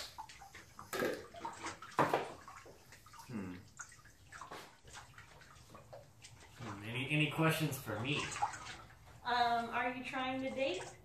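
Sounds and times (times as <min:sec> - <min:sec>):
water sloshing and splashing in a tub: 0:00.0 - 0:11.0.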